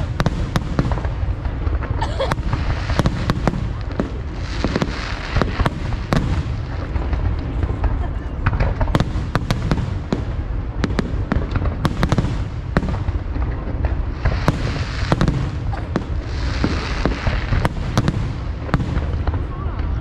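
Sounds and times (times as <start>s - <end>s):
fireworks bangs: 0.0s - 20.0s
fireworks hissing crackle: 0.0s - 20.0s.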